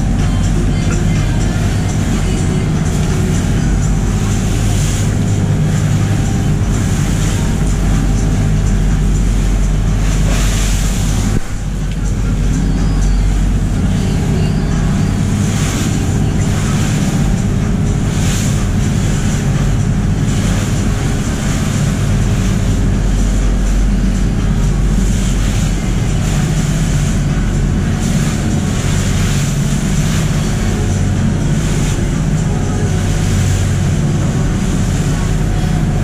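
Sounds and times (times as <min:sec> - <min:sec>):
boat engine droning: 0:00.0 - 0:36.0
water splashing along hull: 0:00.0 - 0:36.0.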